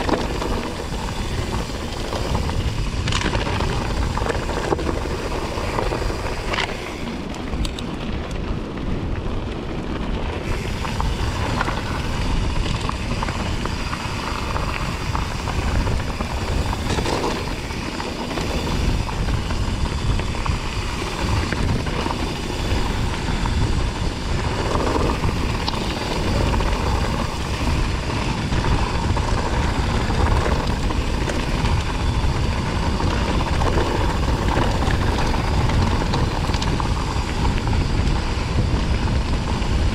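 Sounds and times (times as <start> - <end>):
bike rattles and knocks: 0.0 - 39.9
bike tyres crunching on gravel: 0.0 - 39.9
wind on microphone: 0.0 - 39.9.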